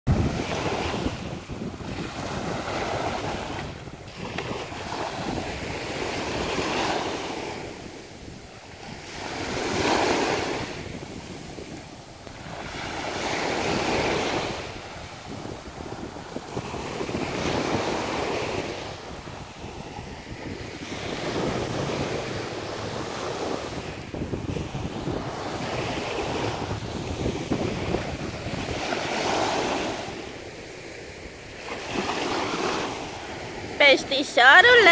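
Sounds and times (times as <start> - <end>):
small waves breaking on shore: 0.1 - 34.9
wind buffeting microphone: 0.1 - 34.9.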